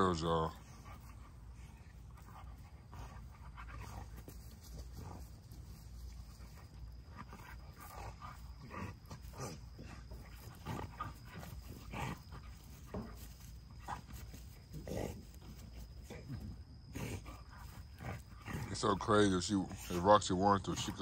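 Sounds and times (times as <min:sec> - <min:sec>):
dogs growling: 0:00.0 - 0:21.0.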